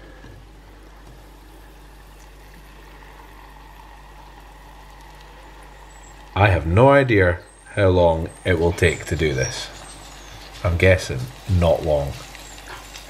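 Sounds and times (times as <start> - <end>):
hot oil sizzling in fryer: 0.0 - 6.4, 7.5 - 13.0.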